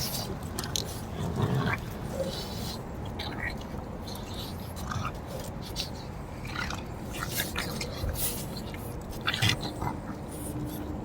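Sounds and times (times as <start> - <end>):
puppies chewing: 0.0 - 11.0
small clicks and scrapes: 0.0 - 11.0.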